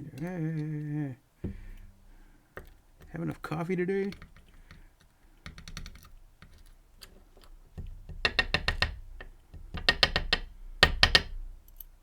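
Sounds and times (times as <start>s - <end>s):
metal lock parts clicking: 0.0s - 1.0s, 1.7s - 12.0s.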